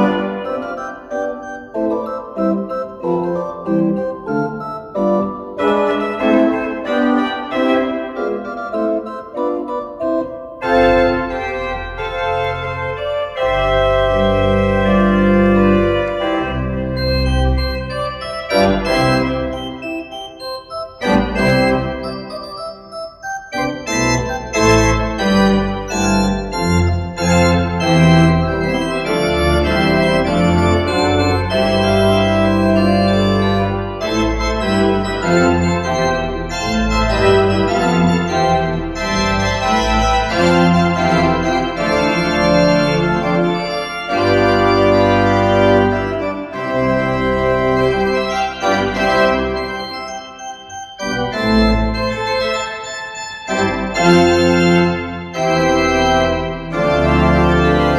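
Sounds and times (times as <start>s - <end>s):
church pipe organ playing: 0.0s - 57.9s.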